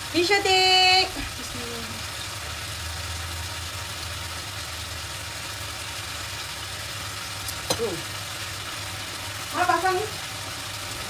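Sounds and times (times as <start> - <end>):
extractor fan humming: 0.0 - 11.0.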